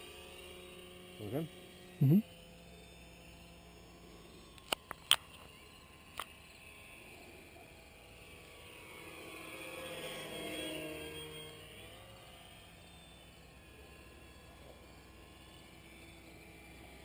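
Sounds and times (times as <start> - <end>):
model plane motor whine: 0.0 - 17.0.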